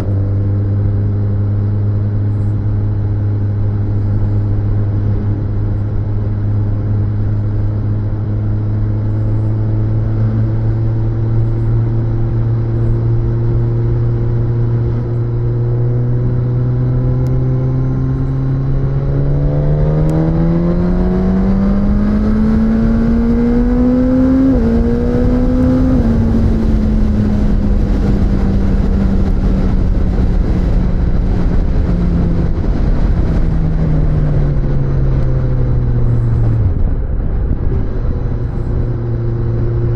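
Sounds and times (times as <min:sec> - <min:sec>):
motorcycle engine revving: 0:00.0 - 0:39.9
wind and road rush: 0:00.0 - 0:39.9.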